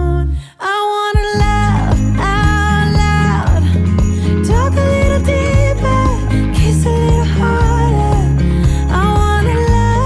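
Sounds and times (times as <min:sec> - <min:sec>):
pop song with female vocals: 0:00.0 - 0:10.0.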